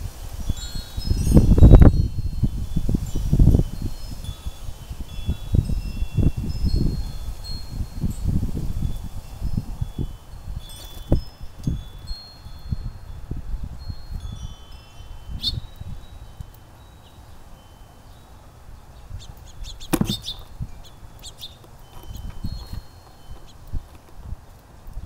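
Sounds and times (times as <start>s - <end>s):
wind chimes tinkling: 0.0s - 25.0s
wind gusts on microphone: 0.0s - 25.0s.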